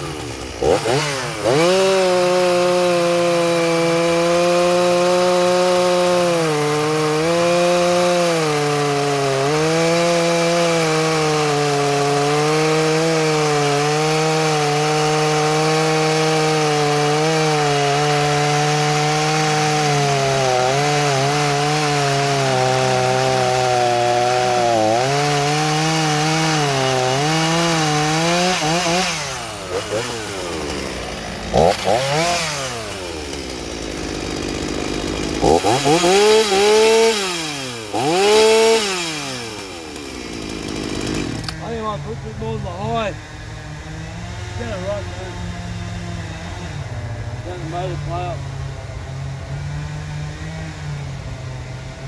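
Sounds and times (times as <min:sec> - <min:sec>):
chainsaw cutting logs: 0:00.0 - 0:52.0.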